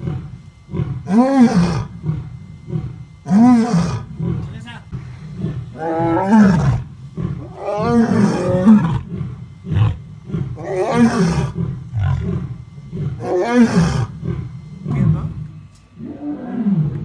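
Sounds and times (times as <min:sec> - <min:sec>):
lion roaring: 0:00.0 - 0:17.0.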